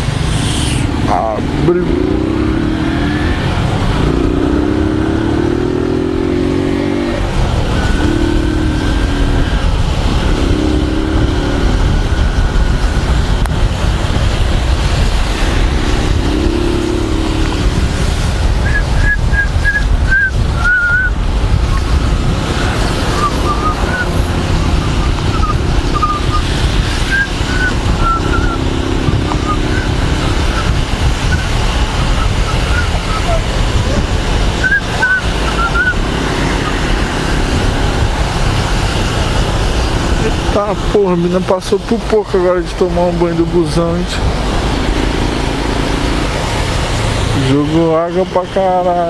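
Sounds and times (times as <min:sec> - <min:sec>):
wind noise on microphone: 0:00.0 - 0:47.6
motorcycle engine revving: 0:00.0 - 0:49.0
wet road noise: 0:00.0 - 0:49.0.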